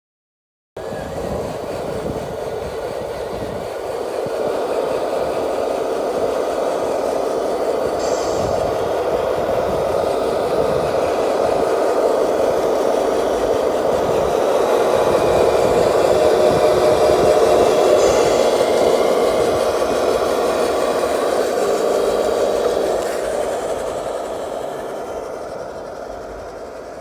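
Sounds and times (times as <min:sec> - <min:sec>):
toy truck electric motor whirring: 0:00.8 - 0:27.0.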